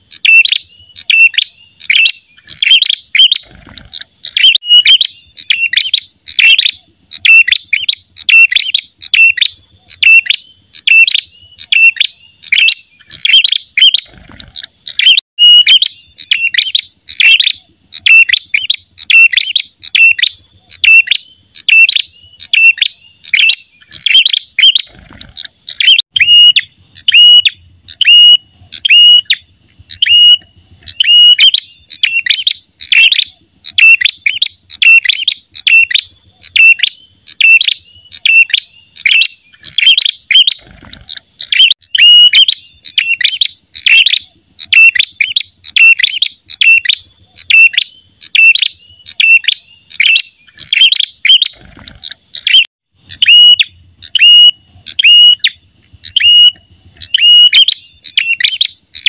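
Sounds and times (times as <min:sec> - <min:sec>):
bird chirping sharply: 0:00.1 - 0:59.0.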